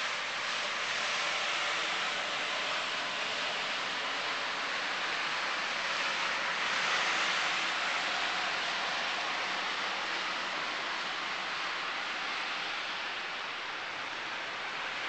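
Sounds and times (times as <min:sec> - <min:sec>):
steady outdoor rushing hiss: 0:00.0 - 0:15.0.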